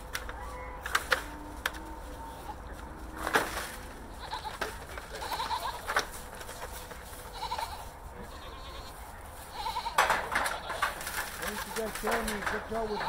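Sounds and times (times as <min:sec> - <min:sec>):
farm animal calling: 0:00.2 - 0:13.0.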